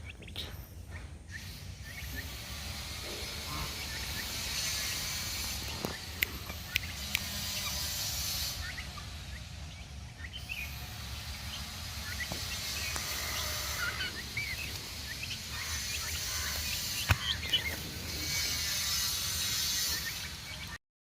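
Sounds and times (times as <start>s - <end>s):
steady low hum: 0.0s - 20.8s
turkeys chirping calls: 0.0s - 20.8s.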